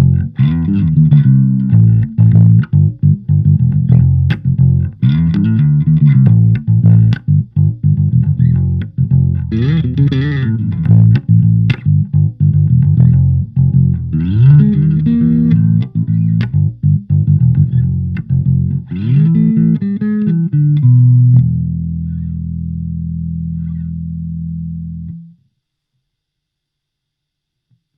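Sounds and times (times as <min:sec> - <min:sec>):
electric bass guitar notes: 0:00.0 - 0:25.4.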